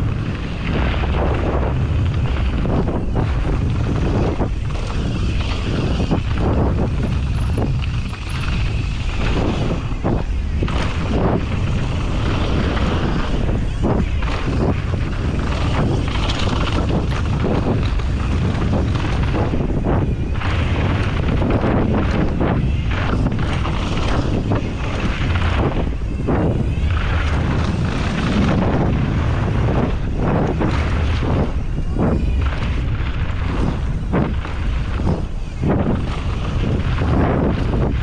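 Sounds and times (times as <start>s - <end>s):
bike rattling and knocking: 0.0s - 38.0s
wind buffeting microphone: 0.0s - 38.0s.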